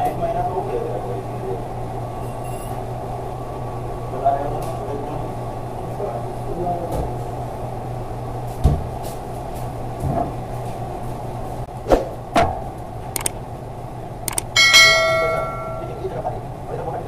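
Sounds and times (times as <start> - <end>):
steady low hum: 2.8 - 17.0.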